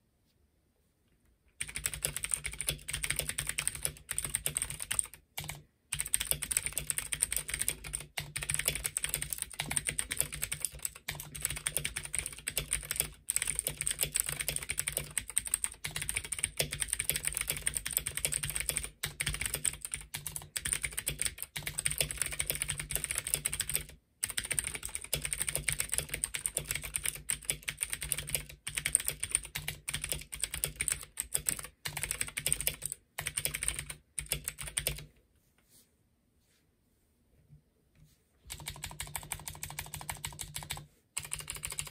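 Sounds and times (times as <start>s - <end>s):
clicky mechanical keyboard typing: 1.6s - 35.1s, 38.5s - 41.9s.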